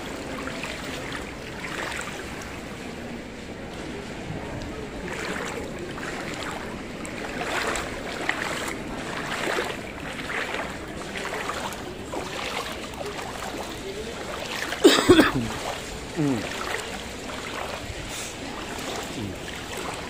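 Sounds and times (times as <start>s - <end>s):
footsteps splashing through water: 0.0s - 20.0s.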